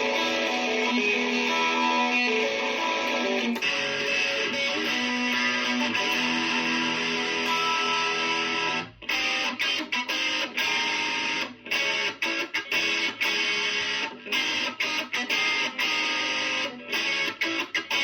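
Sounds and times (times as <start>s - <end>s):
solo guitar melody: 0.0s - 18.0s.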